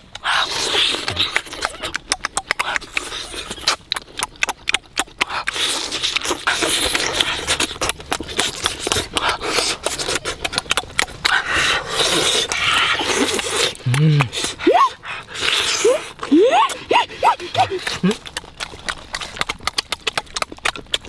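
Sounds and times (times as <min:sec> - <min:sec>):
lip smacking: 0:00.0 - 0:21.0
wet chewing: 0:00.0 - 0:21.0.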